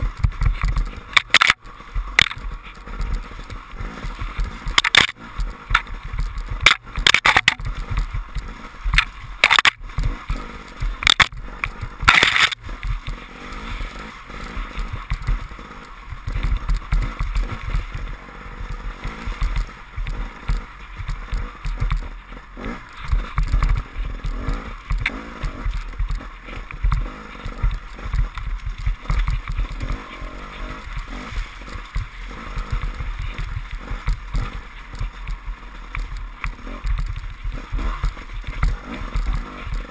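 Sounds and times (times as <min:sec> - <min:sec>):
sharp knocks on bumps: 0:00.0 - 0:13.3, 0:14.6 - 0:39.9
motorcycle engine: 0:00.0 - 0:39.9
tyres through mud: 0:00.0 - 0:39.9
wind rumble on microphone: 0:00.0 - 0:39.9.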